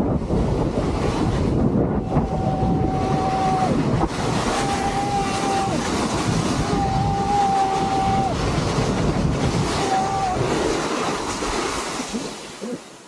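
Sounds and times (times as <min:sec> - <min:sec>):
wind roaring on microphone: 0:00.0 - 0:12.7.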